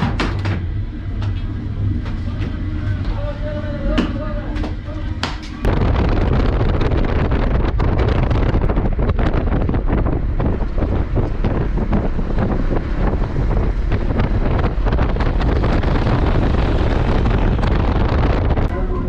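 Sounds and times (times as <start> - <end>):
car rumbling on road: 0.0 - 19.0
wind buffeting microphone: 0.0 - 19.0.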